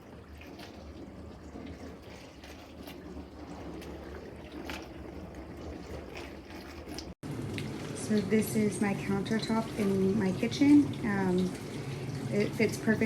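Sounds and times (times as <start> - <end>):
dishwasher running: 0.0 - 13.0
water spraying and splashing: 0.0 - 13.0
drips and clicks: 0.3 - 13.0.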